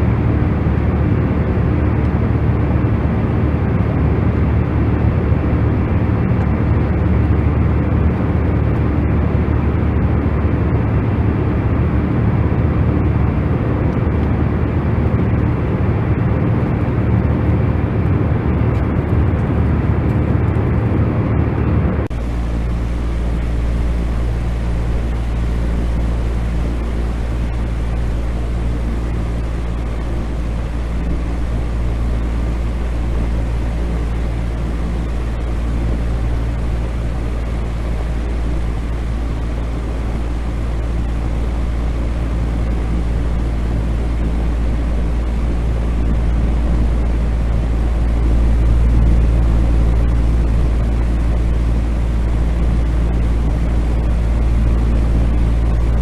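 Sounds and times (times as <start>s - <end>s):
deep rumbling drone: 0.0s - 56.0s.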